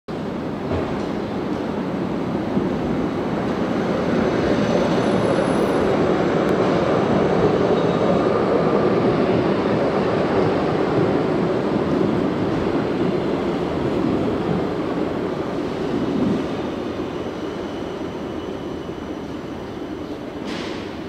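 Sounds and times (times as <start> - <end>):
tram rumbling on rails: 0.1 - 21.0.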